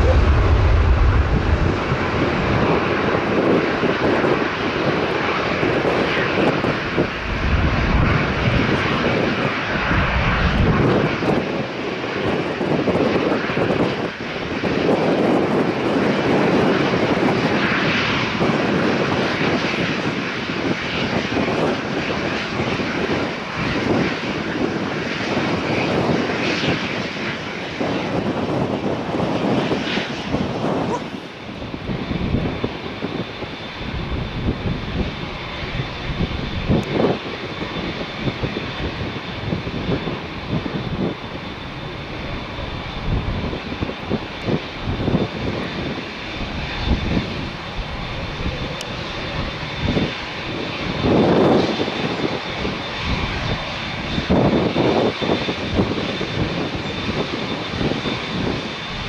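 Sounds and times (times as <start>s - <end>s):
jet engines roaring: 0.0s - 59.0s
wind buffeting microphone: 0.0s - 59.0s.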